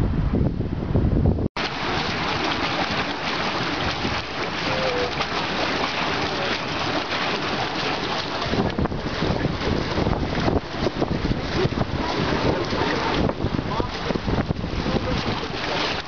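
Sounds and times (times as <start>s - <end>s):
water gushing and splashing: 1.6s - 16.0s.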